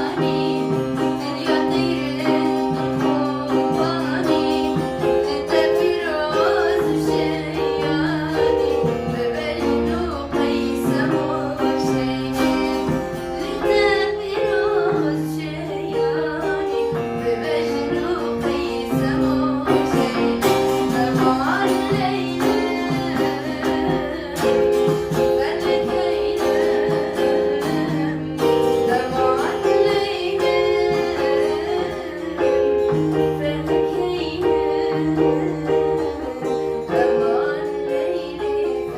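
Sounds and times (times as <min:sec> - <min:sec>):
person singing: 0:00.0 - 0:38.9
plucked strings: 0:00.0 - 0:38.9.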